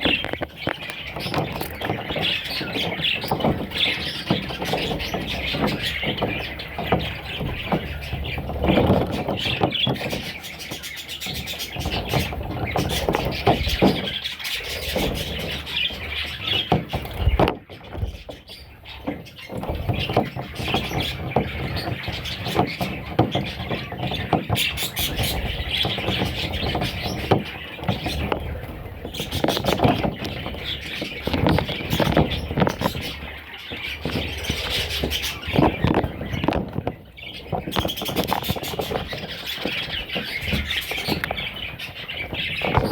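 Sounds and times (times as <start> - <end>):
budgerigar chicks squeaking: 0.0 - 42.9.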